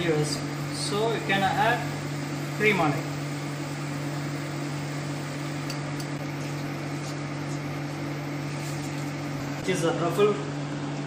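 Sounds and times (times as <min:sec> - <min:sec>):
kitchen equipment humming: 0:00.0 - 0:11.0.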